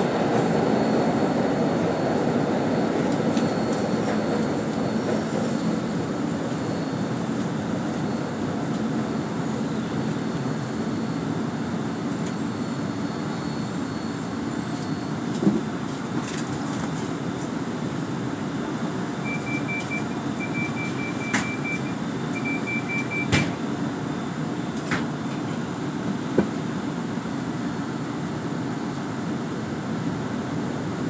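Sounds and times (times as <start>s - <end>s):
trolley running hum: 0.0s - 29.2s.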